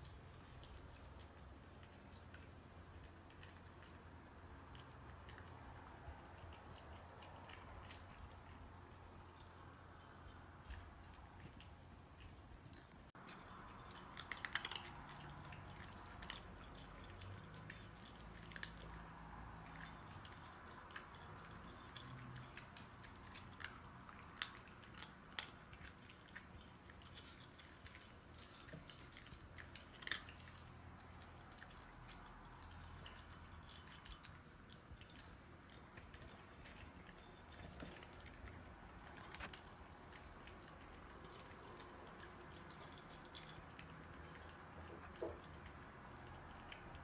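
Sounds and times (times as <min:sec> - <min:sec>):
cats chewing dry kibble: 0:00.0 - 0:47.0
kibble clicking against bowls: 0:00.0 - 0:47.0.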